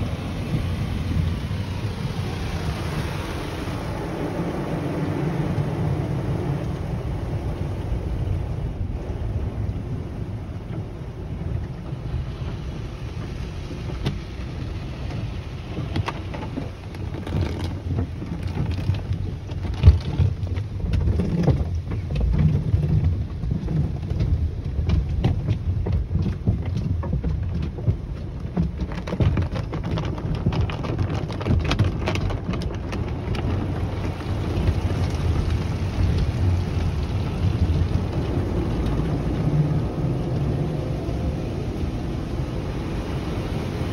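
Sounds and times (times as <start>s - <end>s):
car wash machinery rumble: 0.0s - 43.9s
wash strips slapping windshield: 0.0s - 43.9s
water spraying on car: 0.0s - 43.9s.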